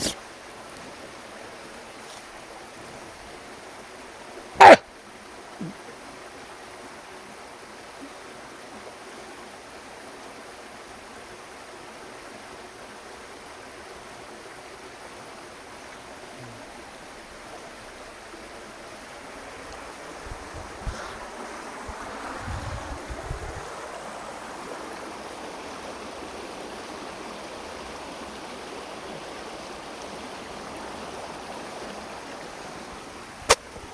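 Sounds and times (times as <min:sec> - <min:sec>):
stream flowing: 0:00.0 - 0:33.9.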